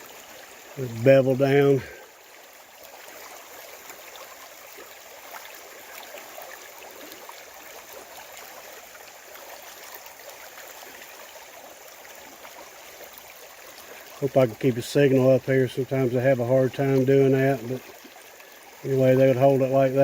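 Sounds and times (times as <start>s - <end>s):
creek water rushing and babbling: 0.0s - 20.0s.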